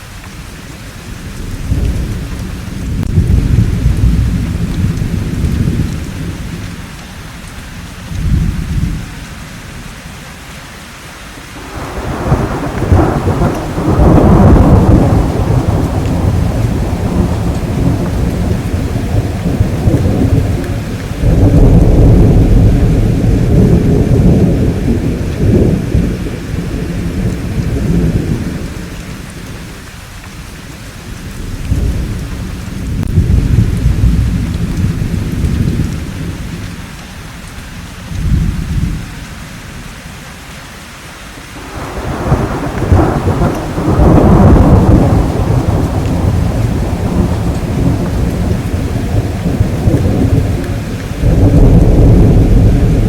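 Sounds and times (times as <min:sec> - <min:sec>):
steady rain: 0:00.0 - 0:53.0
deep rumbling thunder: 0:01.2 - 0:06.9, 0:08.1 - 0:09.1, 0:11.6 - 0:29.8, 0:31.2 - 0:36.8, 0:38.1 - 0:39.1, 0:41.6 - 0:53.0.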